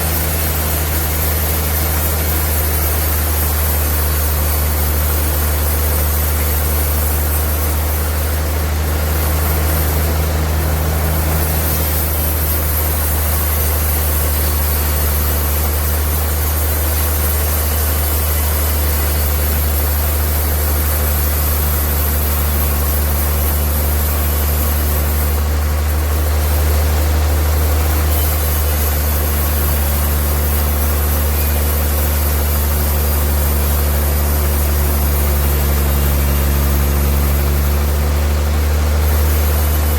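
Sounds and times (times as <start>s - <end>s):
sawmill machinery humming and hissing: 0.0s - 39.9s.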